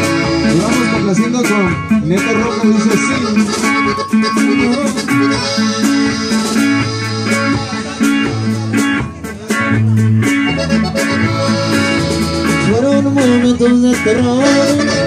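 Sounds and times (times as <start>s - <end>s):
button accordion: 0.0s - 15.0s
electric bass line: 0.0s - 15.0s
guitar strumming: 0.0s - 15.0s
steady drum beat: 0.0s - 15.0s.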